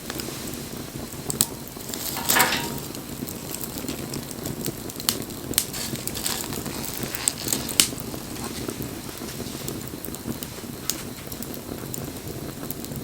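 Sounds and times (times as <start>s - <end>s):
fire pops and crackles: 0.0s - 13.0s
low rush of flames: 0.0s - 13.0s.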